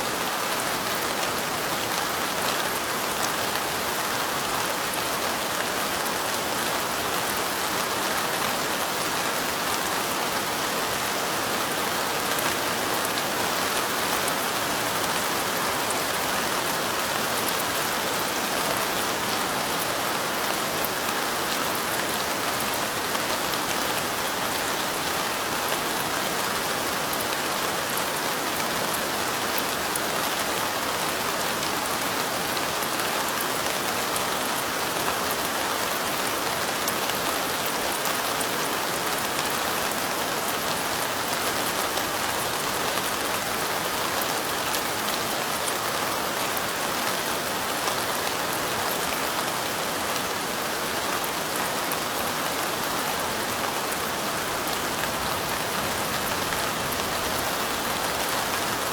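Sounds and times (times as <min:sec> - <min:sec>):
light rain: 0:00.0 - 0:58.9.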